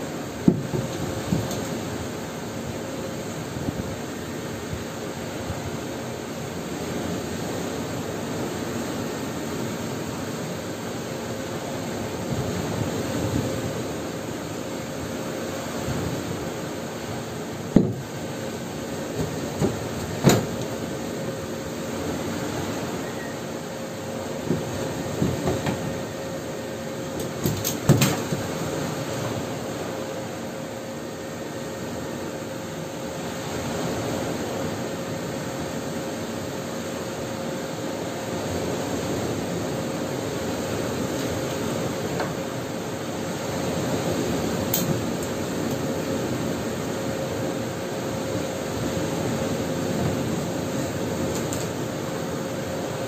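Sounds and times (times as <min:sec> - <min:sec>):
faint hum: 0:00.0 - 0:53.0.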